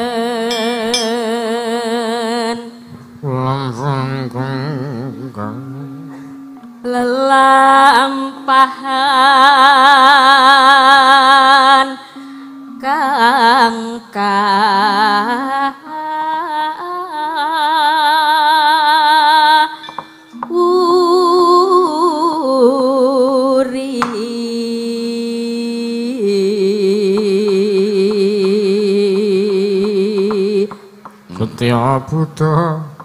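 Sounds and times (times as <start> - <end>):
person singing with vibrato: 0.0 - 33.0.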